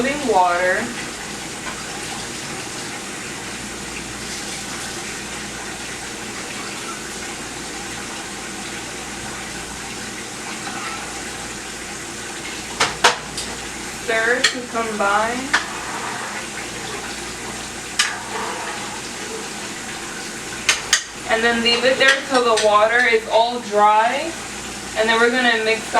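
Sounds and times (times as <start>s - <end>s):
water boiling in a pot: 0.0s - 25.9s.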